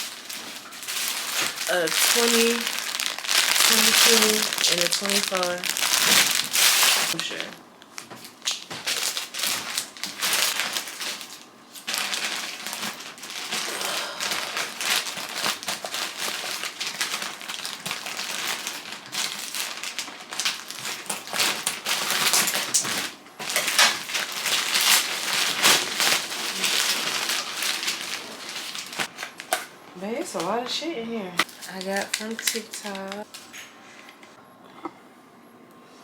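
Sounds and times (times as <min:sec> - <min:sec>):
plastic packaging crinkling: 0:00.0 - 0:29.7, 0:31.4 - 0:33.6.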